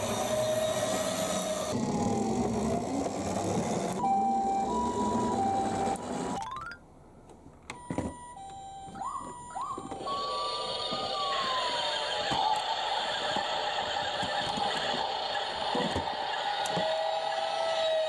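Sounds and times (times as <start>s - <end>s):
toy electronic siren: 0.0s - 6.3s, 8.2s - 18.0s.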